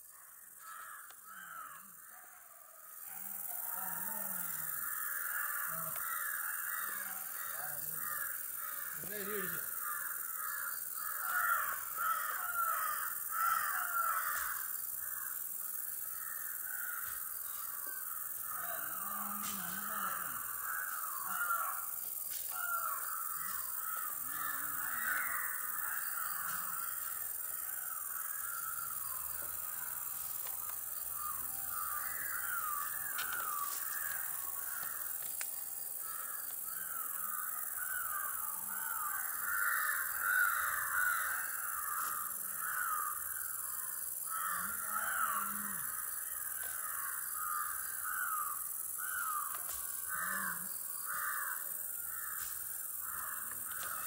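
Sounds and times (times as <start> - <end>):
flock of birds calling: 4.0 - 15.4, 16.1 - 54.0.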